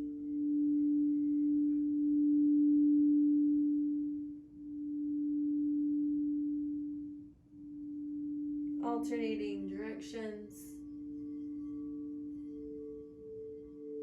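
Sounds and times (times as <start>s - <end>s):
singing bowl ringing: 0.0s - 14.0s.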